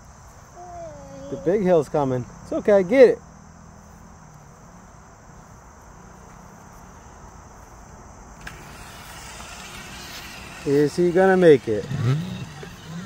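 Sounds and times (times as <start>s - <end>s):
insects chorus droning: 0.0s - 13.0s.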